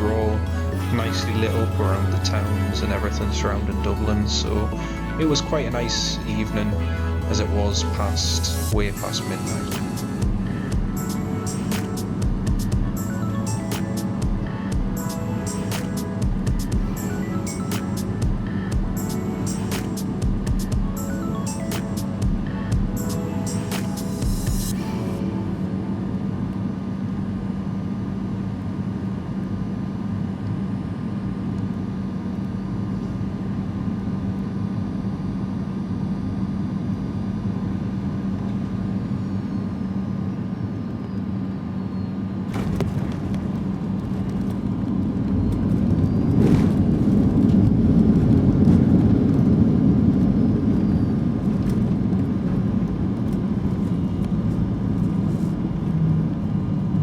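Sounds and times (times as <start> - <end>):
aircraft cabin engine drone: 0.0 - 57.0.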